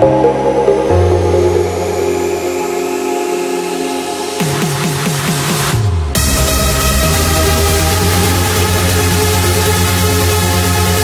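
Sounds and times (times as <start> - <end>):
held synth chords: 0.0 - 11.0.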